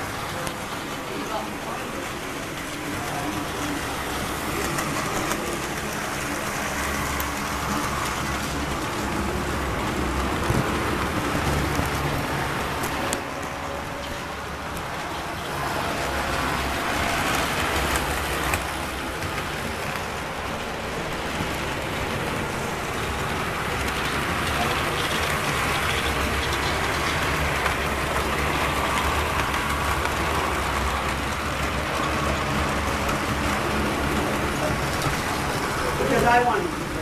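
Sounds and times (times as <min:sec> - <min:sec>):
model train rumbling on track: 0:00.0 - 0:37.0.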